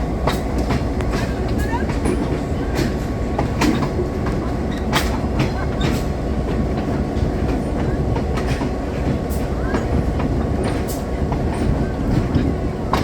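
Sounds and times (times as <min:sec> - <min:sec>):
train rolling on track: 0:00.0 - 0:13.0
wheels clacking over rail joints: 0:00.0 - 0:13.0.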